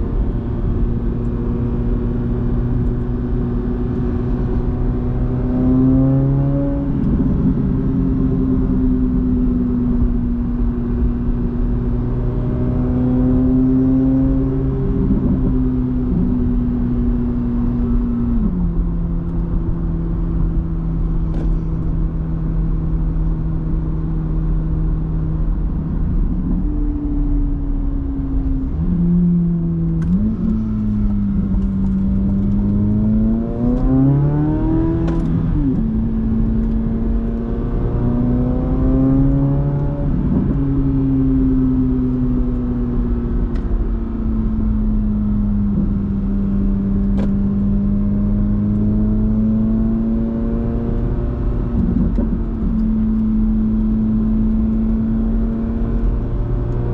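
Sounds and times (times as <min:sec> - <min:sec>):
car engine revving while driving: 0:00.0 - 0:56.9.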